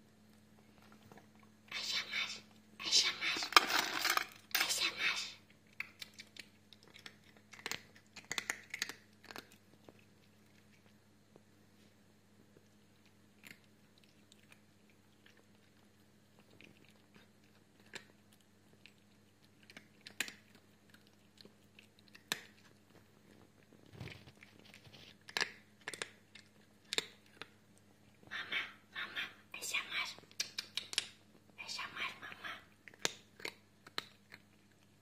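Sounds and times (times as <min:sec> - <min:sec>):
cat crunching dry food: 0:02.8 - 0:11.0, 0:12.5 - 0:28.3, 0:30.4 - 0:35.0.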